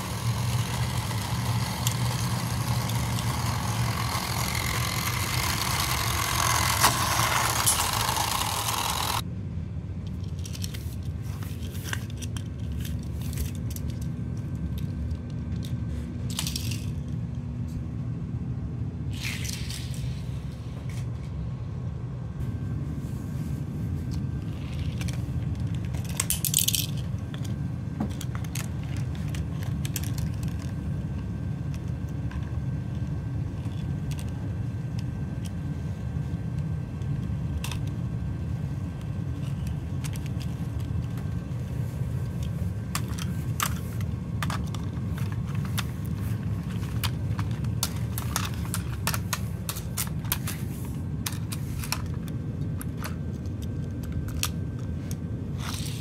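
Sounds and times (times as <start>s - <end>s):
plastic toys clicking and rattling: 0.0s - 9.2s, 10.1s - 17.3s, 19.1s - 20.2s, 24.4s - 35.6s, 36.6s - 38.0s, 39.0s - 56.0s.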